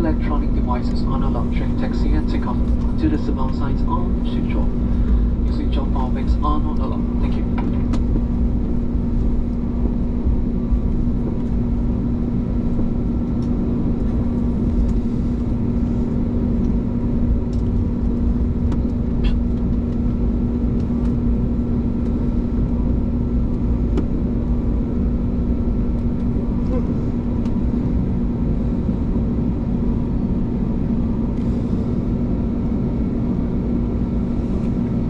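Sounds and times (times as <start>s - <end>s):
aircraft cabin rumble and air rush: 0.0s - 35.0s
steady hum: 0.0s - 35.0s.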